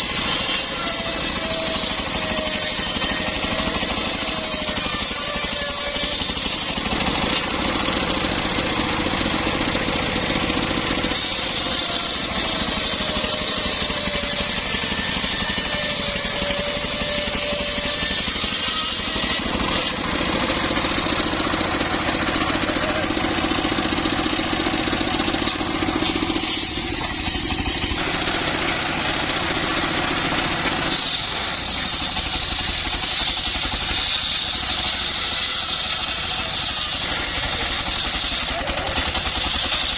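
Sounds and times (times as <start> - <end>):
engine-driven saw cutting timber: 0.0 - 39.9.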